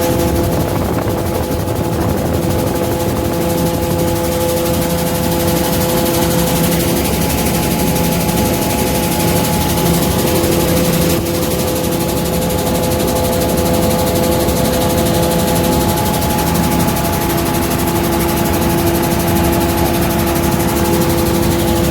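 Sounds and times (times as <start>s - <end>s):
grain-cleaning machine droning: 0.0s - 21.9s.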